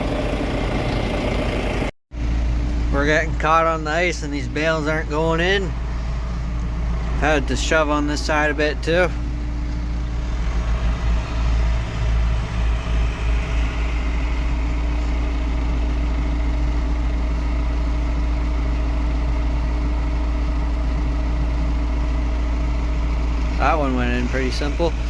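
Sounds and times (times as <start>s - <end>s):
tractor engine rumbling: 0.0s - 25.0s.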